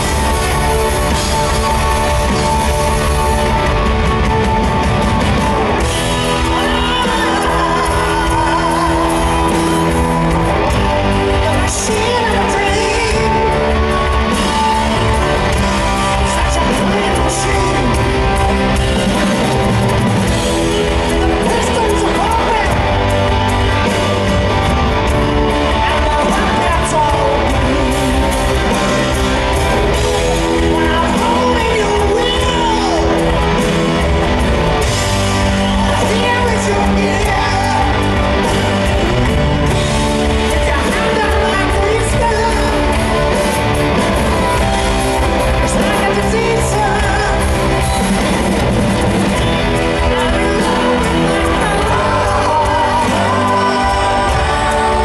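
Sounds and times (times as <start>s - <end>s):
bass: 0.0s - 55.0s
crowd shouting: 0.0s - 55.0s
drums: 0.0s - 55.0s
electric guitar: 0.0s - 55.0s
lead singing: 0.0s - 55.0s.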